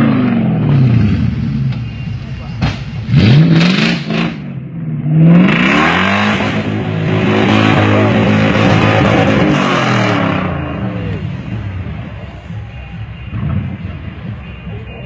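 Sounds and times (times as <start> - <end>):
off-road vehicle engine revving: 0.0 - 14.6.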